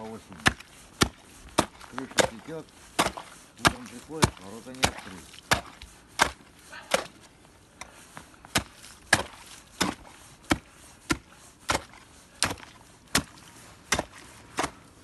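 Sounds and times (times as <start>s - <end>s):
ice chisel striking ice: 0.1s - 7.2s, 8.5s - 14.9s.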